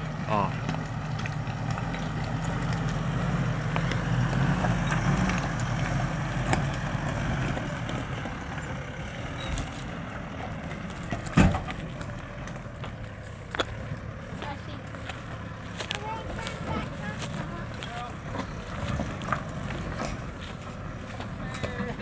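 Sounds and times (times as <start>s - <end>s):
engine hum: 0.0s - 22.0s.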